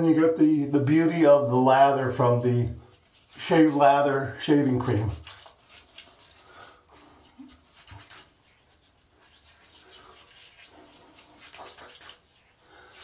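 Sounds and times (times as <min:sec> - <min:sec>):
hands rubbing cream on face: 0:00.7 - 0:13.0.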